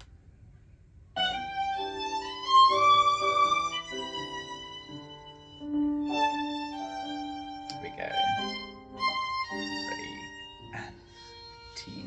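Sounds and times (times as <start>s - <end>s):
sustained background notes: 1.2s - 12.0s
violin playing slow notes: 1.2s - 12.0s.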